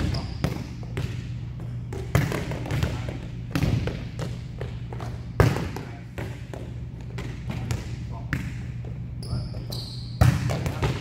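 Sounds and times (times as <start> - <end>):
volleyballs smacking and bouncing: 0.0 - 9.2, 10.2 - 11.0
steady low hum: 0.0 - 11.0.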